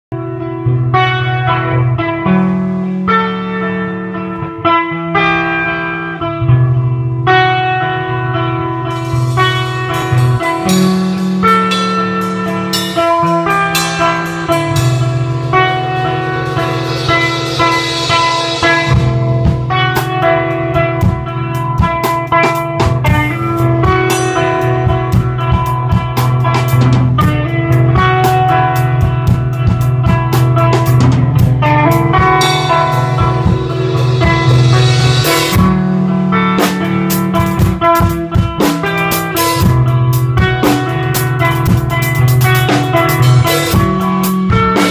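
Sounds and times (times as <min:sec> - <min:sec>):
electric guitar held notes: 0:00.1 - 0:44.9
drumming with cymbal hits: 0:08.9 - 0:44.9.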